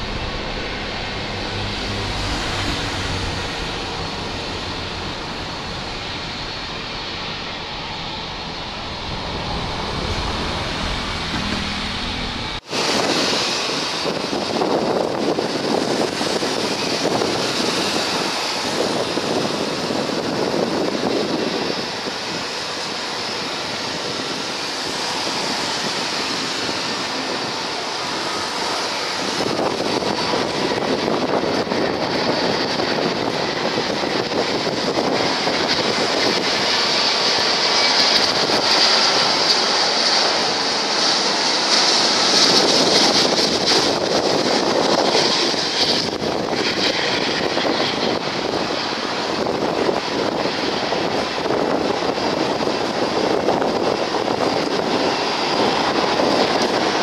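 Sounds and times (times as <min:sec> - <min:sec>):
high engine whine: 0:00.0 - 0:57.0
jet airliner engines: 0:00.0 - 0:57.0
wind rumbling on microphone: 0:00.0 - 0:57.0.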